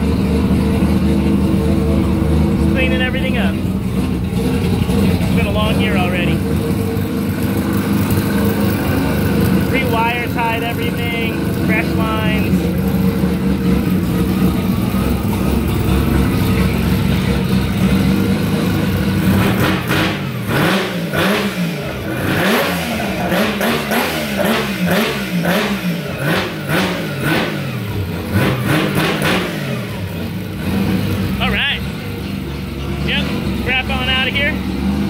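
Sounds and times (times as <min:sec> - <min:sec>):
rotary engine idling and revving: 0:00.0 - 0:35.0.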